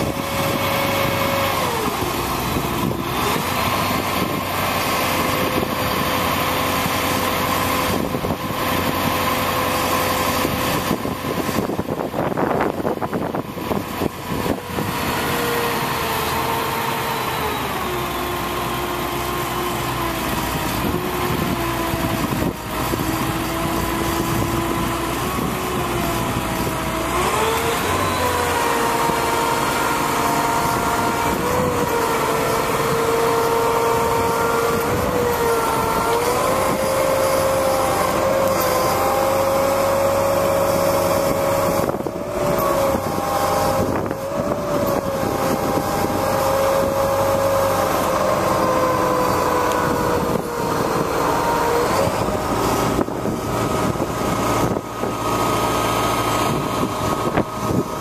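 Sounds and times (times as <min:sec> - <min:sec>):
hydraulics humming: 0:00.0 - 0:58.0
truck engine running: 0:00.0 - 0:58.0.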